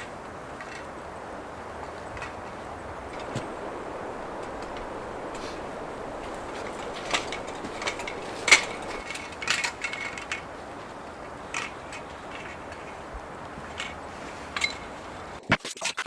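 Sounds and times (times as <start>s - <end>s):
steady background hiss: 0.0s - 15.4s.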